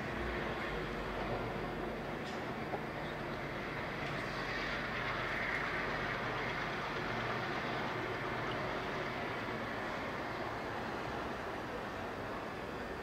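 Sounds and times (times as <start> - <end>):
distant diesel locomotive drone: 0.0 - 13.0.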